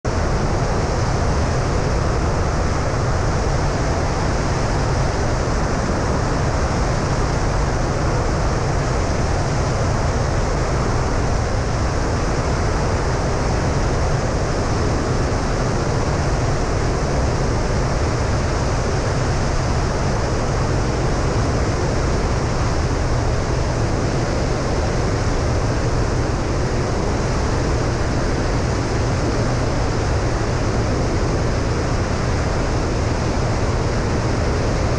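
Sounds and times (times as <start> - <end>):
propeller engine drone: 0.0 - 34.9.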